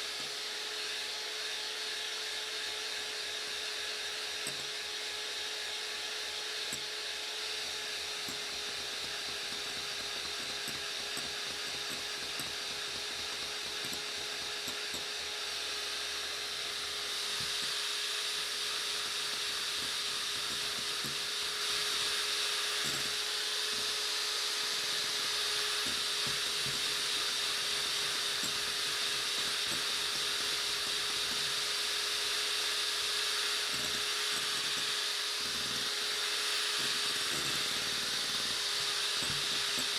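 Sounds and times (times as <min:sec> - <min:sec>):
electric hand mixer whining: 0:00.0 - 0:39.9.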